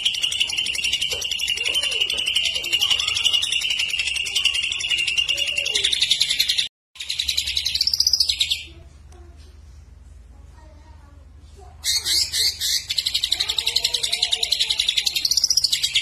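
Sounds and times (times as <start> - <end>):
bird singing chattering trill: 0.0 - 8.7, 11.8 - 16.0.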